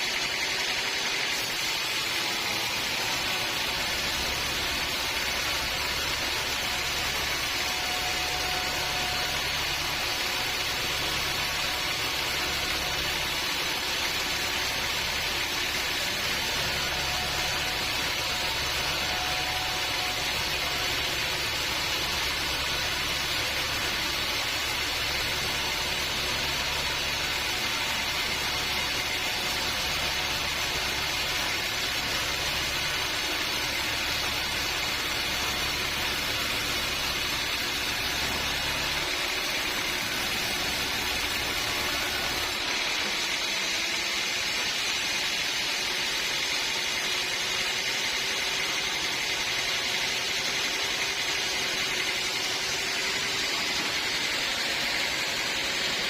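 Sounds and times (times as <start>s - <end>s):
sawmill machine hissing: 0.0s - 56.0s.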